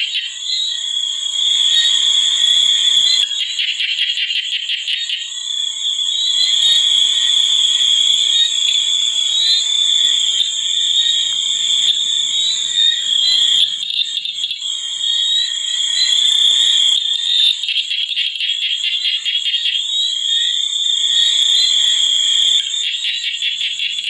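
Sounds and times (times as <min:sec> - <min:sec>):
high-pitched buzzing animal drone: 0:00.0 - 0:24.0.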